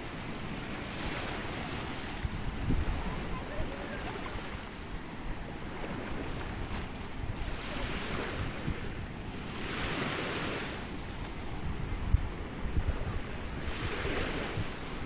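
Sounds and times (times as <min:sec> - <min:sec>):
sea waves breaking: 0:00.0 - 0:15.0
wind buffeting microphone: 0:00.0 - 0:15.0.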